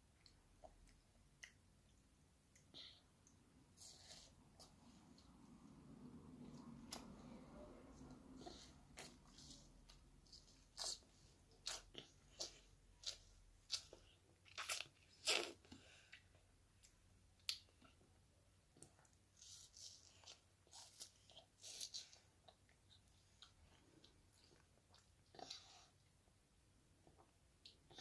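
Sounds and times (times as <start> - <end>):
toddler chewing watermelon: 0.1 - 18.1, 18.7 - 26.2.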